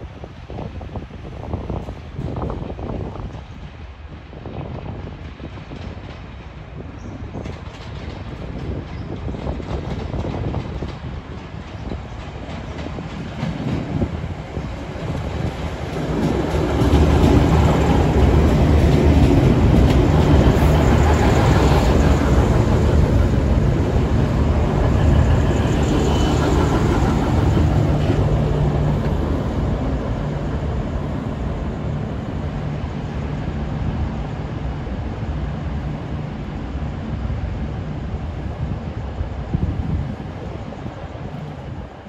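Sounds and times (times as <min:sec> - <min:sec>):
diesel train drone: 0:00.0 - 0:42.0.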